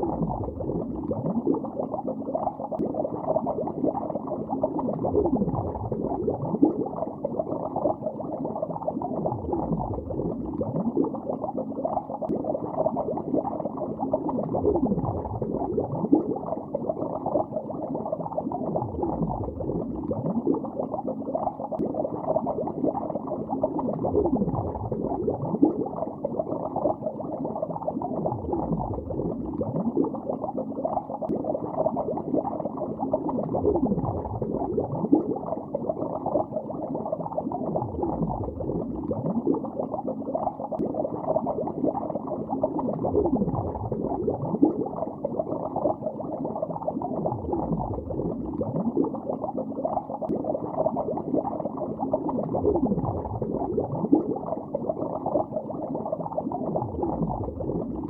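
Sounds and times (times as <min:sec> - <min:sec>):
deep gurgle sweeping in pitch: 0:00.0 - 0:58.0
muffled underwater bubbling: 0:00.0 - 0:58.0.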